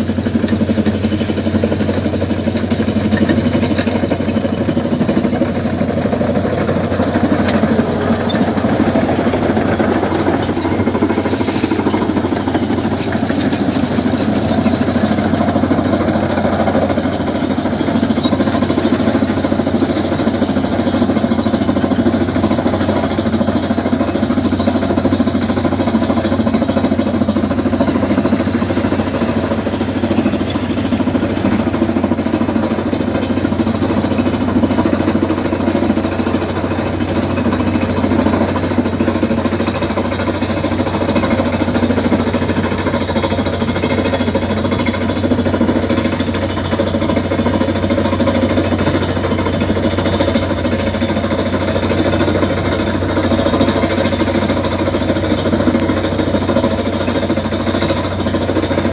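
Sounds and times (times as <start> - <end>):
drilling rig engine running: 0.0 - 58.9.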